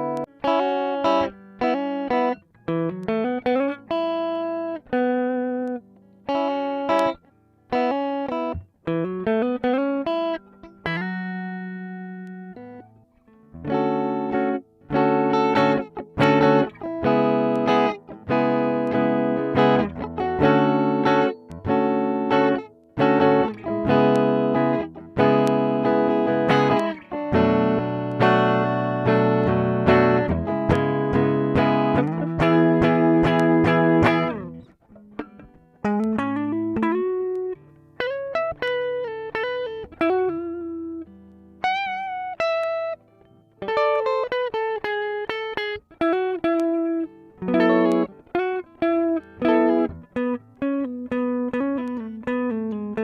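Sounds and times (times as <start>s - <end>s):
clean electric guitar chords: 0.0s - 53.0s.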